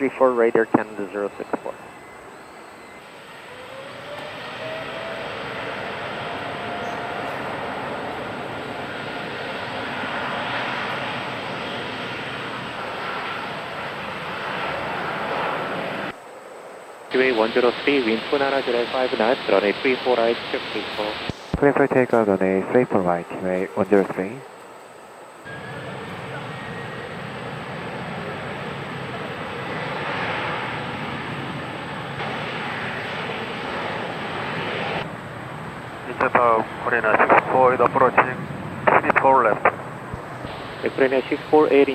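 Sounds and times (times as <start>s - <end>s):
jet engines at takeoff thrust: 0.0s - 41.9s.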